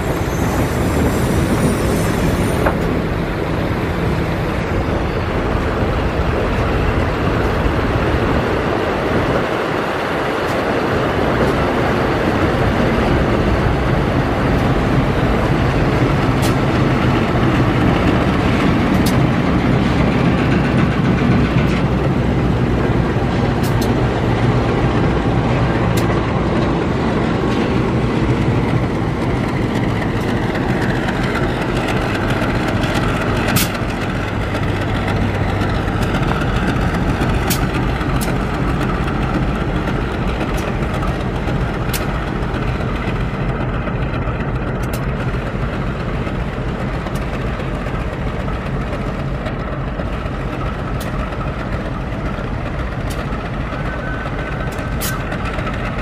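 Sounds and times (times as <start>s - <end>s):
locomotive engine hum: 0.0s - 56.0s
train wheel rumble: 0.0s - 56.0s.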